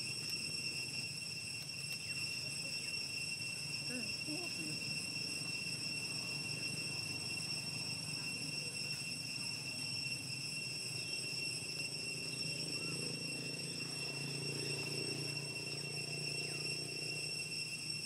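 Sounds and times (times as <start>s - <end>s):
high-pitched insect drone: 0.0s - 18.0s.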